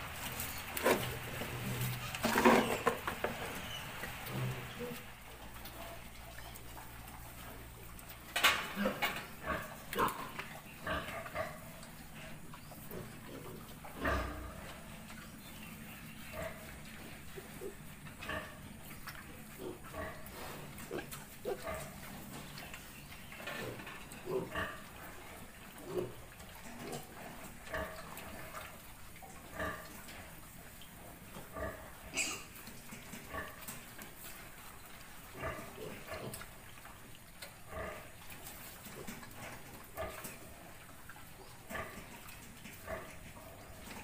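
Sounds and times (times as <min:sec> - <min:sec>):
pigs grunting: 0:00.3 - 0:34.5, 0:35.2 - 0:44.0.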